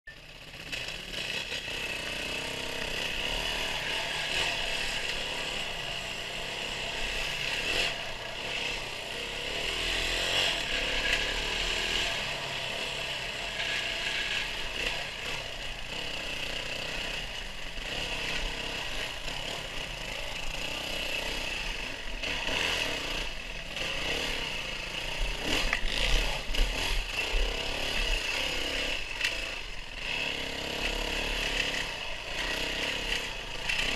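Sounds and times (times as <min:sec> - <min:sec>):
off-road vehicle engine revving: 0:00.2 - 0:33.9.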